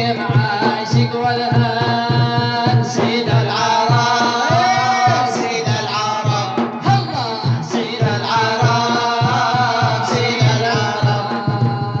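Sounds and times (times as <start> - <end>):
low percussion beat: 0.0 - 12.0
men singing: 0.0 - 12.0.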